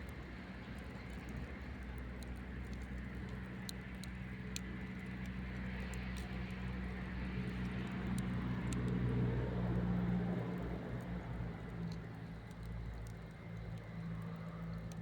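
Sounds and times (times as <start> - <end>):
campfire rumble: 0.0 - 15.0
fire crackles and pops: 0.0 - 15.0.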